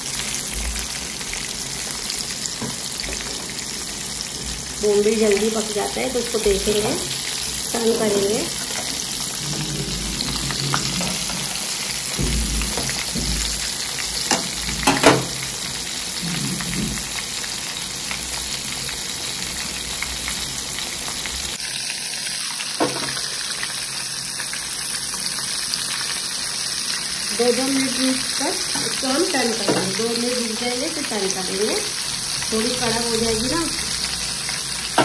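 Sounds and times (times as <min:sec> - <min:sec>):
fish frying in oil: 0:00.0 - 0:35.0.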